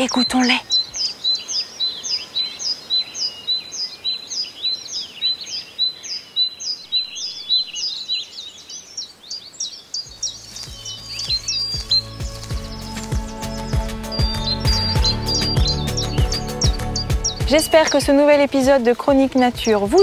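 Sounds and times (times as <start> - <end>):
distant birds calling: 0.0 - 20.0
songbird singing: 0.0 - 20.0.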